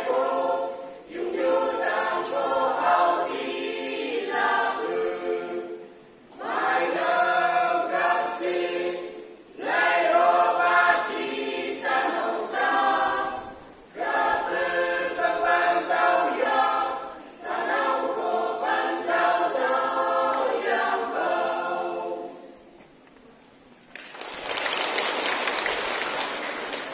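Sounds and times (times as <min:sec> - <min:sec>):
mixed choir singing unaccompanied: 0:00.0 - 0:22.6.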